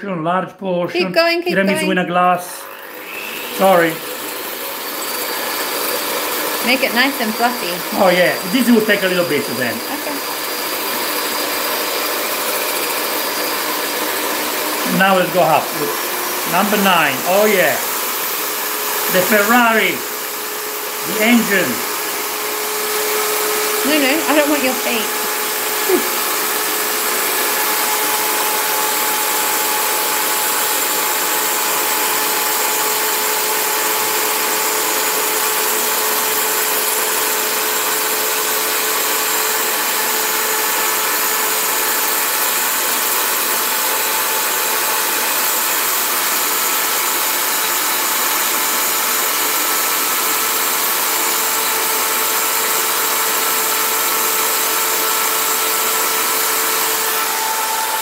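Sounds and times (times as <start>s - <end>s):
electric hand mixer whirring: 1.0s - 58.0s.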